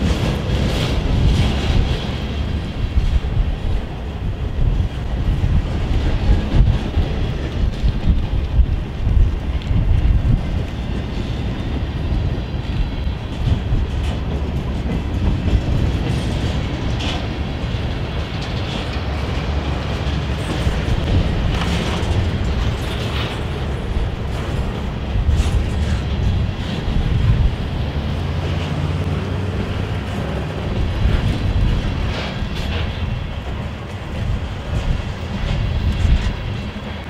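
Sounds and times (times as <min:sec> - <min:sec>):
clickety-clack of rail joints: 0:00.0 - 0:37.0
train wheels rumbling on rail: 0:00.0 - 0:37.0.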